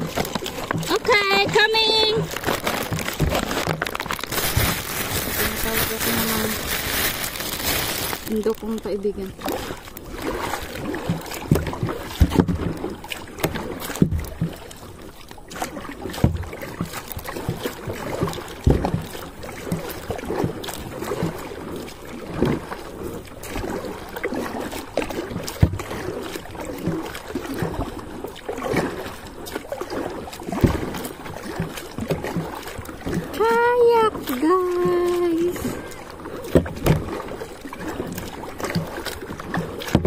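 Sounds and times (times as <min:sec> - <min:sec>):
paddle splashing in water: 0:00.0 - 0:40.0.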